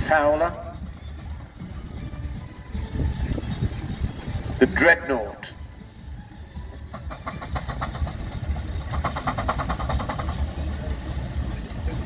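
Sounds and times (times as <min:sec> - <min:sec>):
low engine rumble: 0:00.0 - 0:12.0
steam engine exhaust beats: 0:00.0 - 0:12.0.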